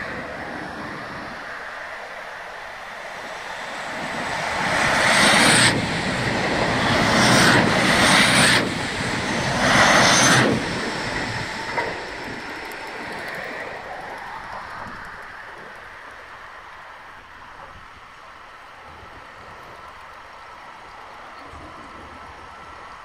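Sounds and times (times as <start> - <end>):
train passing on rails: 0.0 - 23.0.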